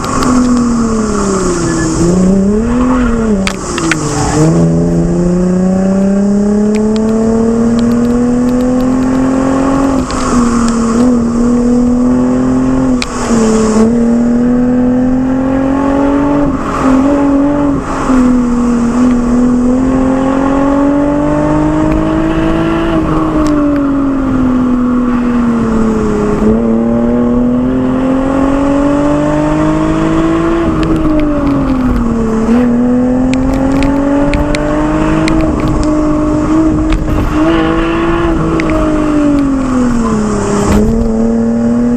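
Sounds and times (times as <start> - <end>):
car exhaust revving: 0.0 - 41.9.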